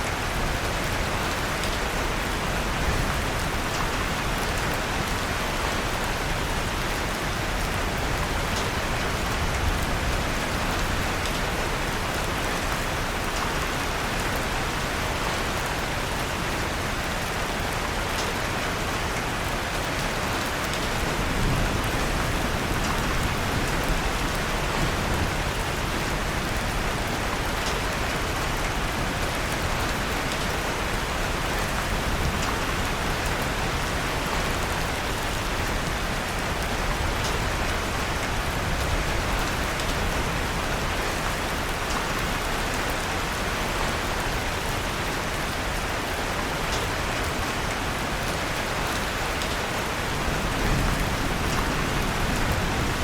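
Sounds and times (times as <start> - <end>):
rain falling on a surface: 0.0 - 53.0.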